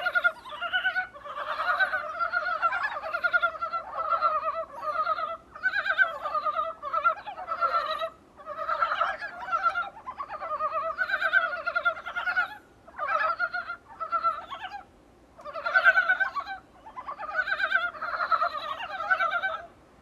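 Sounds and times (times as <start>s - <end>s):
frogs calling in chorus: 0.0s - 19.8s.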